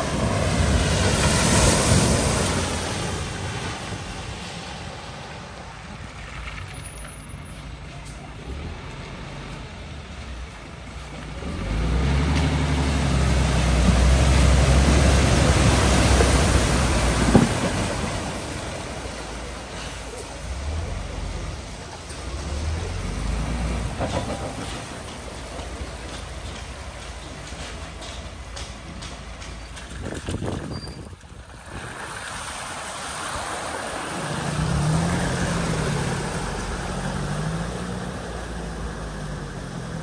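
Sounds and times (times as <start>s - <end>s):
water splashing spray: 0.0s - 8.2s, 12.2s - 39.4s
diesel lorry engine: 0.0s - 30.6s, 31.2s - 40.0s.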